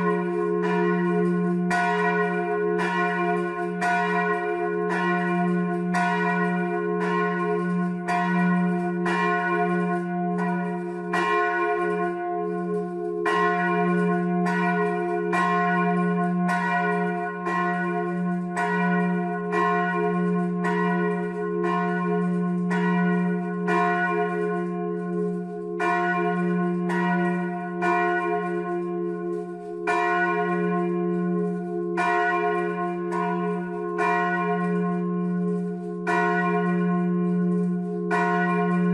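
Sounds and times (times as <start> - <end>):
large bell ringing: 0.0 - 38.9.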